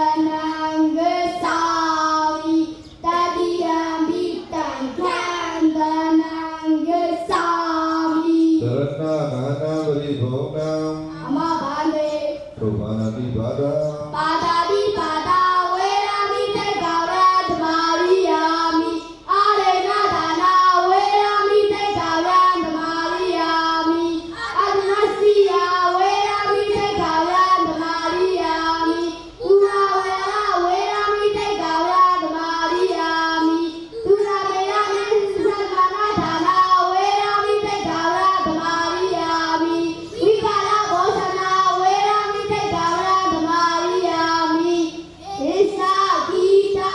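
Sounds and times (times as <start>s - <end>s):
children chanting into a microphone: 0.0s - 12.6s, 13.8s - 46.9s.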